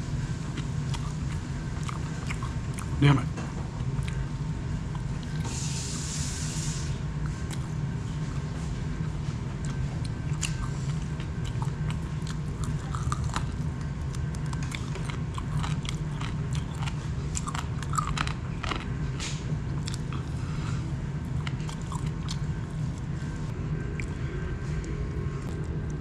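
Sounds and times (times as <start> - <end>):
steady low hum: 0.0 - 26.0
person chewing: 0.5 - 3.0, 3.8 - 5.5, 7.2 - 7.8, 9.0 - 23.1, 23.8 - 26.0.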